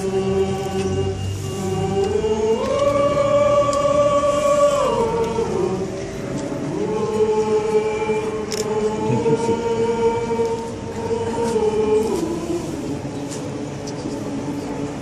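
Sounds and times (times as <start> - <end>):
choir singing slow melody: 0.0 - 15.0.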